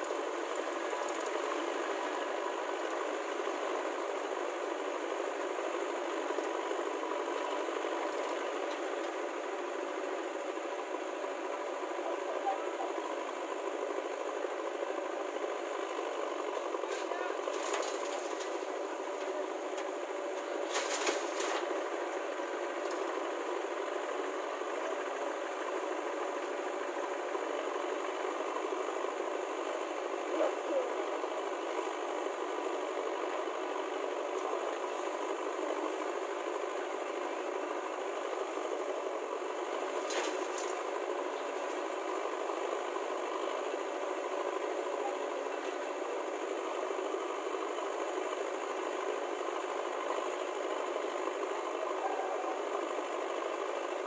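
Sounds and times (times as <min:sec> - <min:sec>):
diesel engines idling with rattle: 0:00.0 - 0:54.0.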